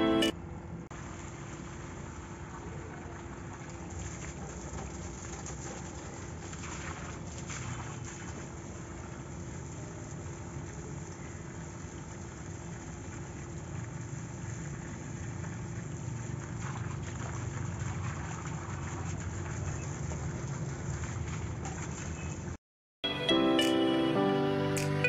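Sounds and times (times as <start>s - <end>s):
hose water splashing on plants: 1.0s - 22.6s.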